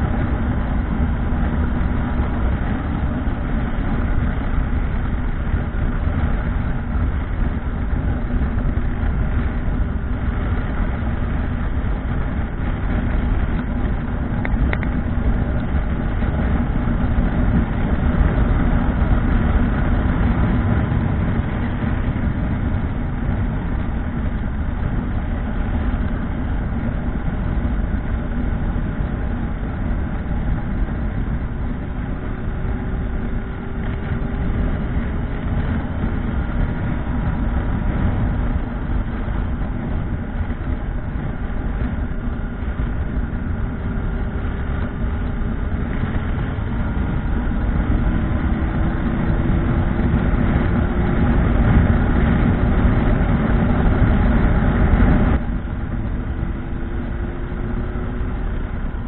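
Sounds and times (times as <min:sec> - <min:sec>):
constant rushing noise: 0:00.0 - 0:59.0
motorcycle engine running: 0:00.0 - 0:59.0.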